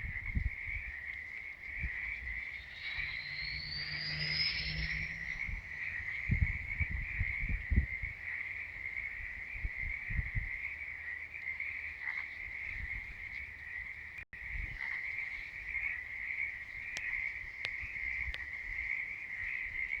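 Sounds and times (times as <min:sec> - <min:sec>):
frogs calling in chorus: 0:00.0 - 0:20.0.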